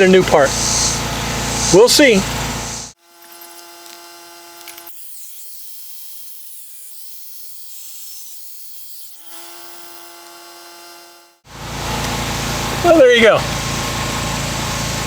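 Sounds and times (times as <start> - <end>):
angle grinder whining and cutting: 0.0 - 15.0.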